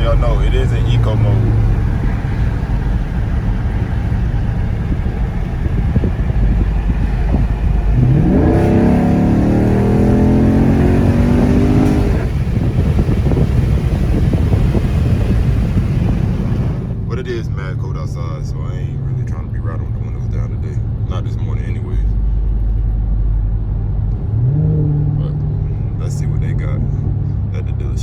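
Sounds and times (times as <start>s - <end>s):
car engine revving: 0.0s - 21.8s, 23.2s - 28.0s.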